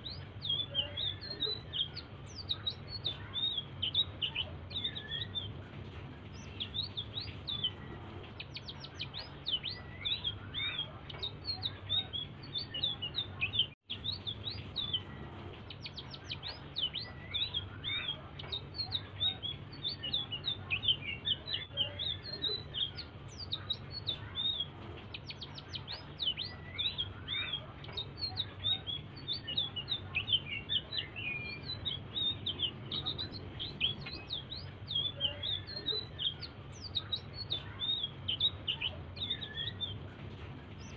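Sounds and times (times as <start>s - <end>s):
songbird twittering: 0.0s - 5.5s, 6.3s - 40.1s
steady low hum: 0.0s - 40.9s.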